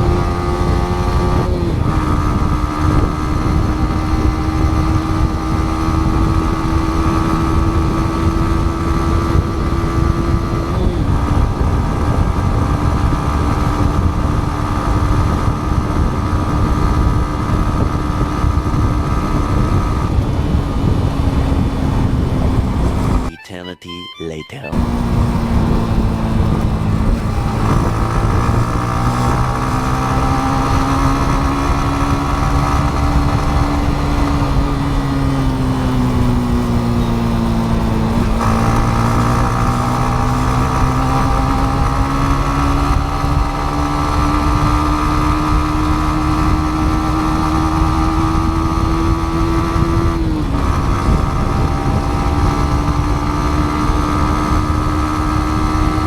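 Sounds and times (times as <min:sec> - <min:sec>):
motorcycle engine running: 0:00.0 - 0:23.3, 0:24.8 - 0:56.0.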